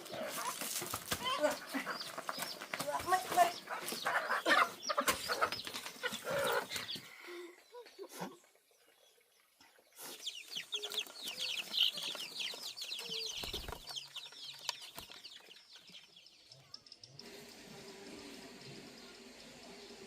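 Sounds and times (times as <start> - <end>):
chicks cheeping: 1.2 - 8.6, 10.0 - 20.0.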